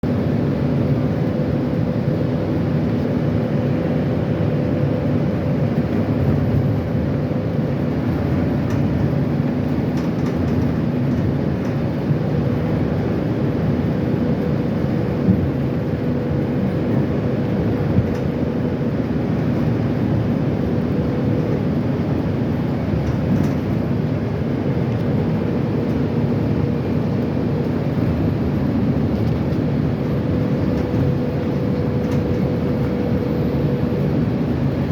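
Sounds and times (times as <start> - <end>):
metro train rumbling: 0.0 - 34.9.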